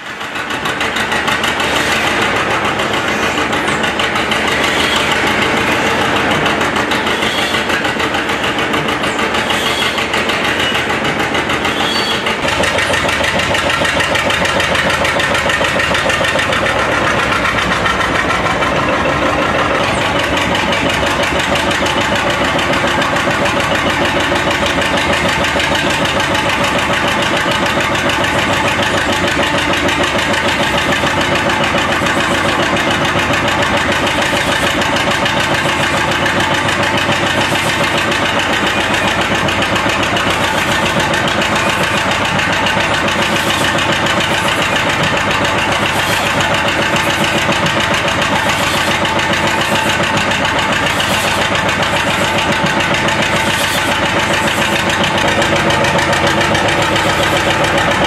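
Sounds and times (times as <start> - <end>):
drive belt slipping: 0.0 - 58.0
tractor engine running under load: 0.0 - 58.0.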